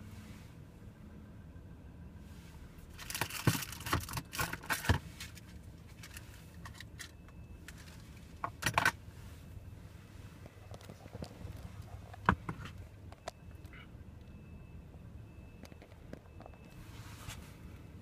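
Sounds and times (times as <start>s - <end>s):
truck engines idling: 0.0s - 18.0s.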